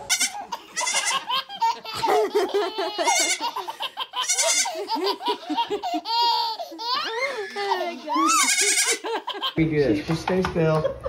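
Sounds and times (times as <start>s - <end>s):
baby giggling: 0.2s - 9.6s
adults laughing: 0.2s - 11.0s.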